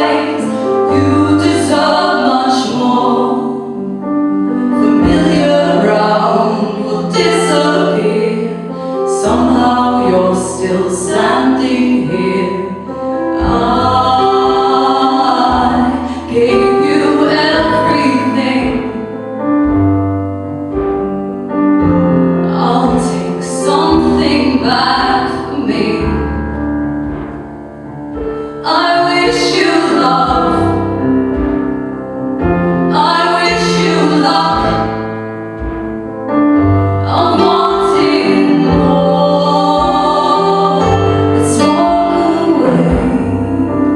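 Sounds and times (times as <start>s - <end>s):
women singing in harmony: 0.0s - 19.5s, 22.4s - 26.5s, 28.4s - 31.6s, 32.5s - 35.7s, 36.6s - 43.9s
instrumental accompaniment: 0.0s - 43.9s.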